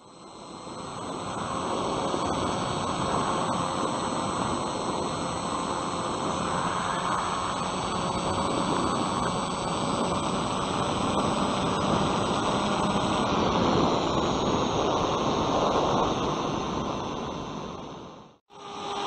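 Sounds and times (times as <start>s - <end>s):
electric motor and propeller humming: 0.0s - 19.0s.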